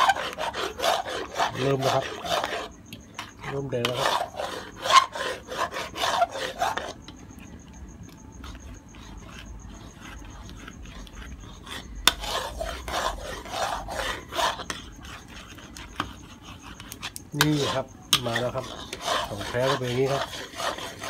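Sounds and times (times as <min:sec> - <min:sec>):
spatula scraping a metal wok: 0:00.0 - 0:07.6, 0:08.3 - 0:21.0.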